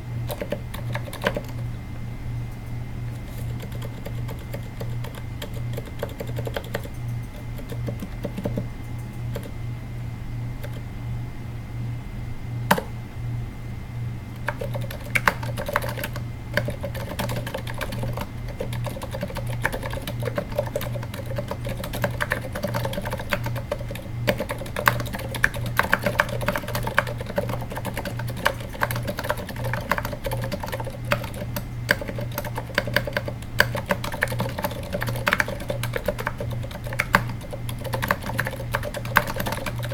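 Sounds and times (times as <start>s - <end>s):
steady low hum: 0.0s - 39.9s
soft muted keyboard typing: 0.3s - 1.6s, 2.5s - 9.6s, 10.6s - 10.9s, 14.3s - 39.9s.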